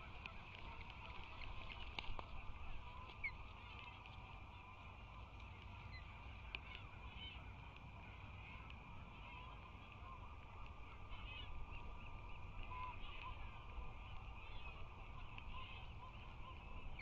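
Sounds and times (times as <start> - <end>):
microphone hum and low rumble: 0.0 - 17.0.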